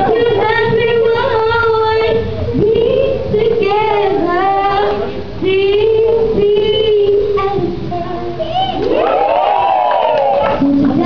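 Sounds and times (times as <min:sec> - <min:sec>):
woman singing: 0:00.0 - 0:08.9, 0:10.5 - 0:11.0.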